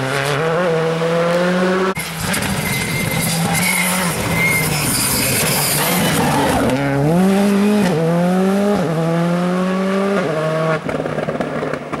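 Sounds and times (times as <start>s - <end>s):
rally car accelerating through gears: 0.0s - 11.8s.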